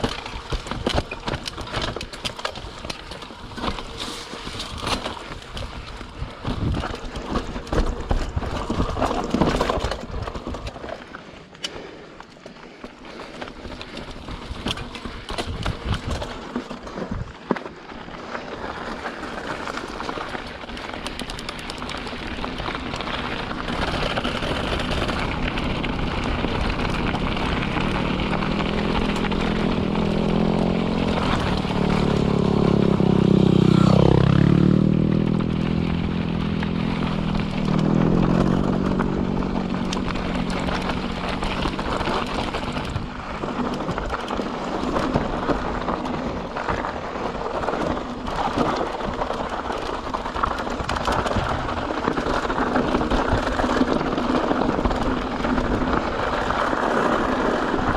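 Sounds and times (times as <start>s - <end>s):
bike tyre roar and rattle: 0.0s - 57.9s.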